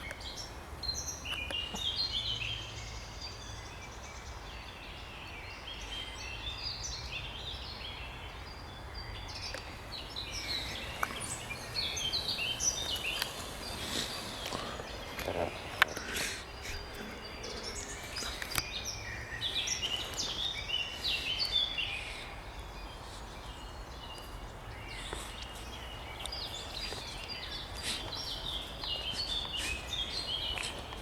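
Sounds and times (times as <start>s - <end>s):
songbirds chirping and warbling: 0.0s - 31.0s.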